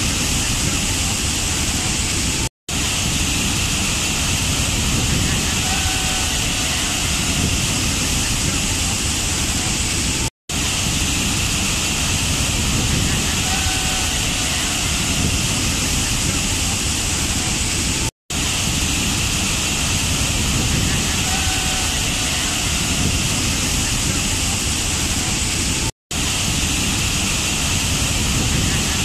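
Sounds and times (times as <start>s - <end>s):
waterfall crashing onto rocks: 0.0s - 29.0s.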